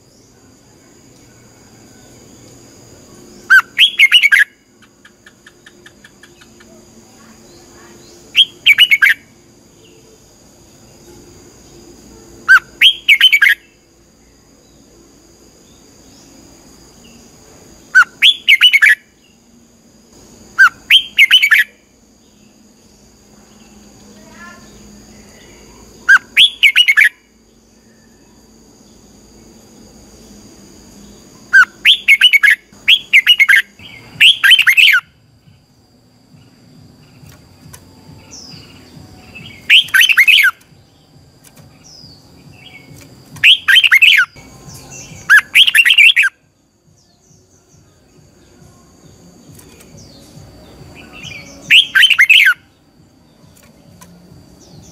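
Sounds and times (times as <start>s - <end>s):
bird singing warbled phrases: 1.7s - 14.9s, 15.6s - 19.5s, 20.4s - 28.4s, 31.0s - 35.2s, 36.4s - 54.9s.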